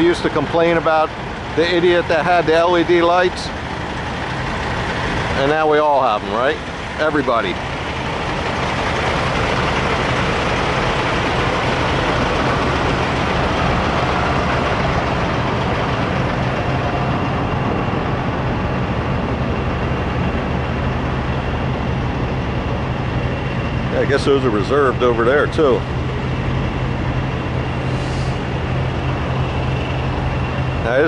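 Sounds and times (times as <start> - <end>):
diesel truck engines idling: 0.0 - 31.0.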